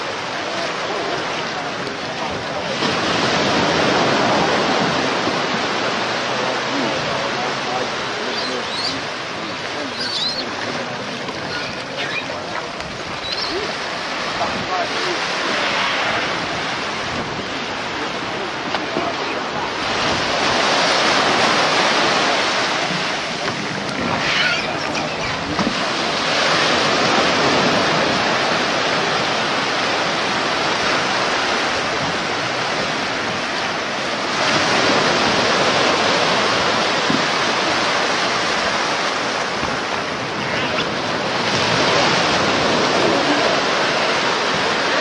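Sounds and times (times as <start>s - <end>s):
surf breaking on beach: 0.0s - 45.0s.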